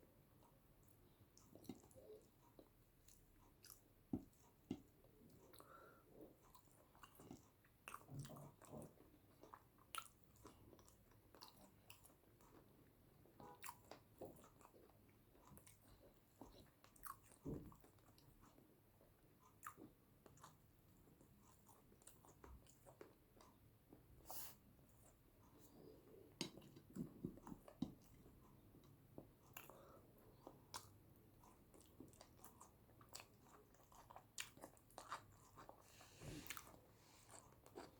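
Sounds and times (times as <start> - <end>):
person chewing food: 0.5 - 37.9.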